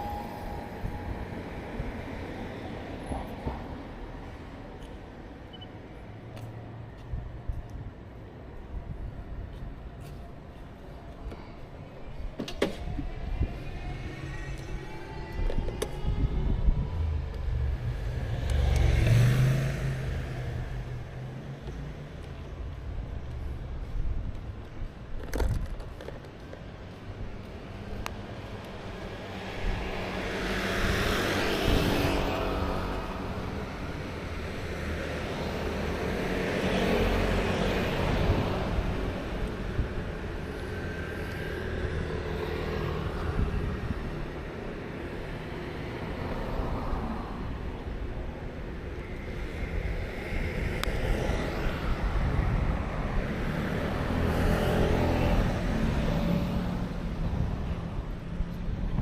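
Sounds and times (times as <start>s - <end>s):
street traffic rumble: 0.0s - 59.0s
vehicles passing: 0.0s - 59.0s.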